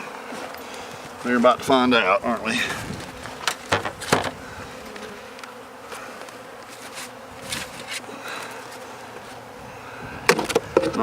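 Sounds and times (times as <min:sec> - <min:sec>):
honey bees buzzing: 0:00.0 - 0:11.0
wooden hive knocks and scrapes: 0:00.3 - 0:09.6, 0:10.2 - 0:11.0.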